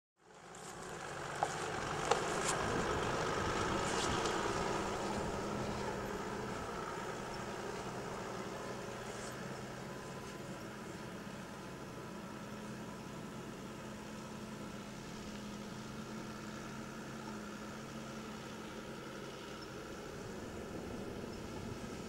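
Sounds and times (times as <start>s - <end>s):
diesel truck engine at low revs: 0.2s - 22.0s.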